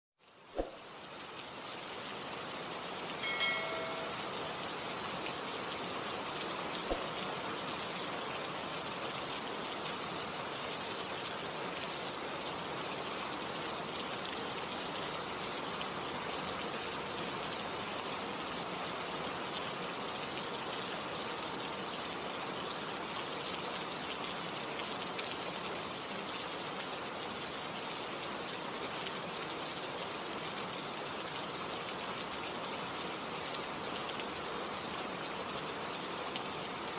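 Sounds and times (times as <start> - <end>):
steady rain falling: 0.2 - 36.9.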